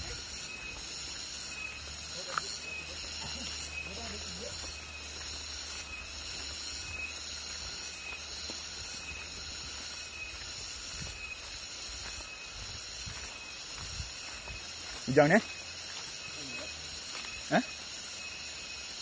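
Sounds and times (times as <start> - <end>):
high-pitched insect buzzing: 0.0 - 19.0.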